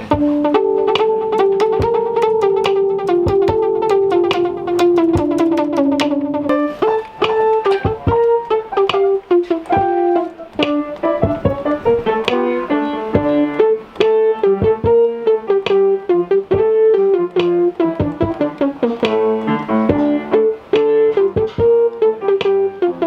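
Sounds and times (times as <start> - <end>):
electronic keyboard piano melody: 0.0 - 23.0.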